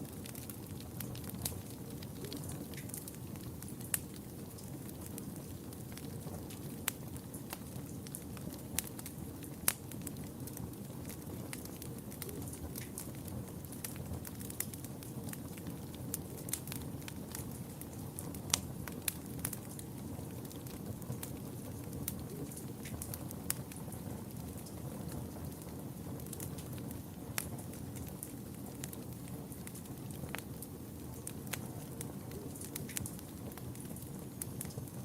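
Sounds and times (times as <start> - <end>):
fire crackling and popping: 0.0 - 35.0
fire flames rumbling: 0.0 - 35.0.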